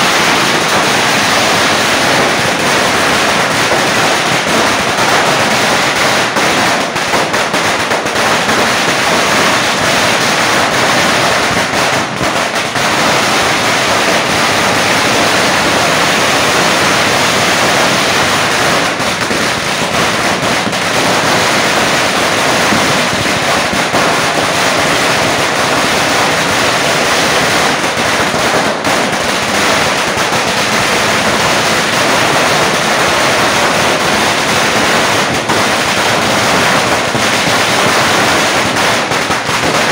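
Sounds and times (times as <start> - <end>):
firecracker string crackling: 0.0 - 39.9.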